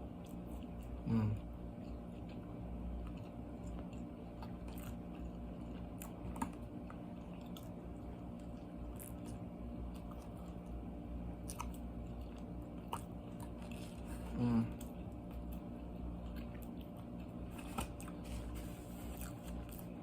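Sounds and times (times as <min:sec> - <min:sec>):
person chewing food: 0:00.0 - 0:20.0
steady low hum: 0:00.0 - 0:20.0.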